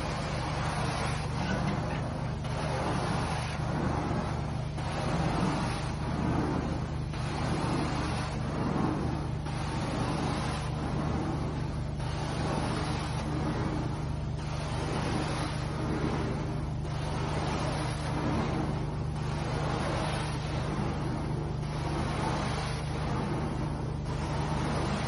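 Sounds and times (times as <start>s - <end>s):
low machine hum: 0.0s - 25.0s
vacuum wand sucking water: 0.0s - 25.0s.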